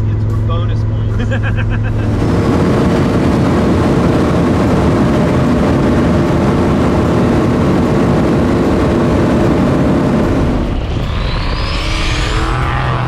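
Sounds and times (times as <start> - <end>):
road and wind noise: 0.0 - 13.0
vehicle engine cruising: 0.0 - 13.0.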